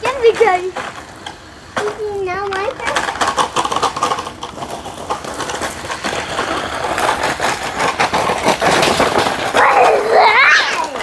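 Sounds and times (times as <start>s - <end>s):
irregular clicks and knocks: 0.0s - 9.6s
toy truck electric motor whirring: 0.2s - 11.0s.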